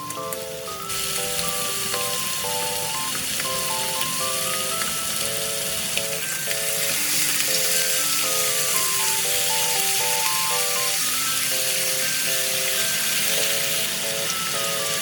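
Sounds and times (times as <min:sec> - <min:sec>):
chicken sizzling in frying pan: 0:00.0 - 0:15.0
plucked background music: 0:00.0 - 0:15.0.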